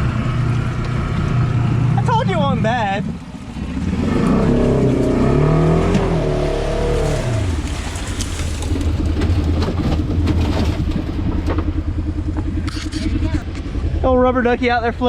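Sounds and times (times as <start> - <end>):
utility vehicle engine revving: 0.0 - 14.2.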